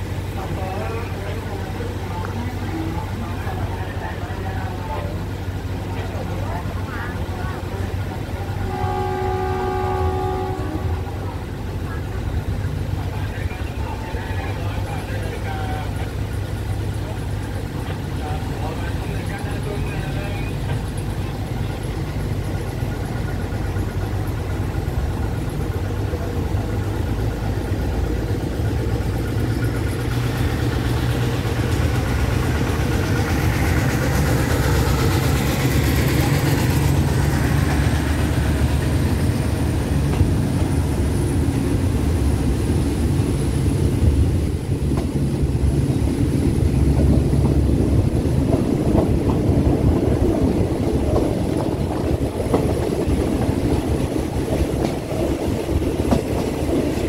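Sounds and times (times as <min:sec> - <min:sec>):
diesel train engine droning: 0:00.0 - 0:57.0.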